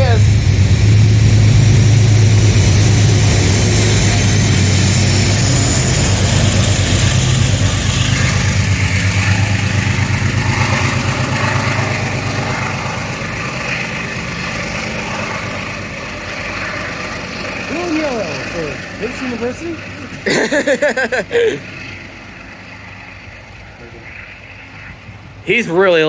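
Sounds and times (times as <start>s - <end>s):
wheels rumbling on rails: 0.0s - 22.8s
locomotive engine drone: 0.0s - 26.0s.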